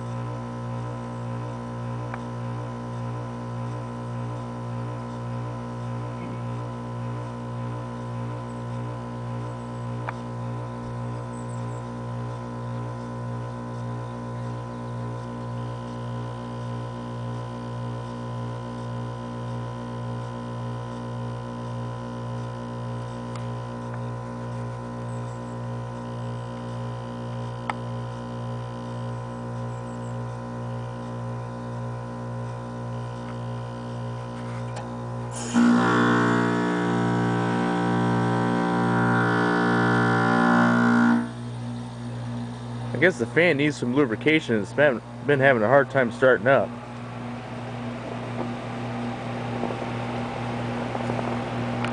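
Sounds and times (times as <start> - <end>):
fan motor buzzing loudly: 0.0 - 51.9
heat pump unit humming: 0.0 - 51.9.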